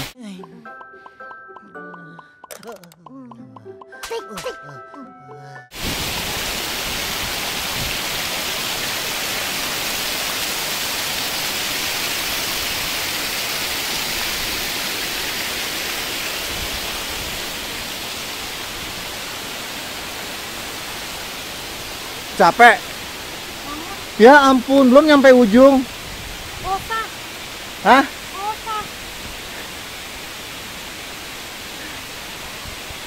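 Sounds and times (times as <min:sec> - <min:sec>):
waterfall roaring: 0:05.7 - 0:33.0.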